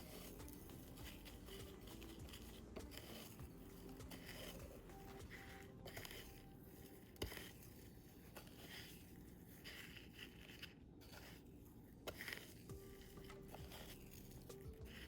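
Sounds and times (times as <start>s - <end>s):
breadcrumbs scraping and rustling: 0.0s - 15.0s.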